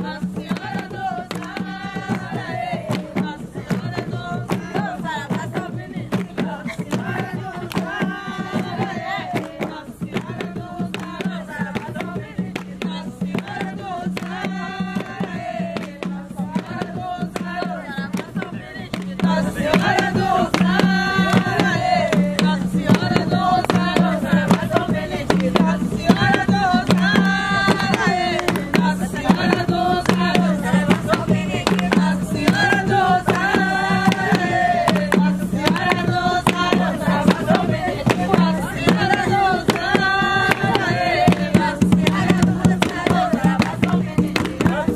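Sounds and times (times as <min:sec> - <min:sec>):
hand drum beats: 0:00.0 - 0:44.9
voices singing: 0:00.0 - 0:44.9.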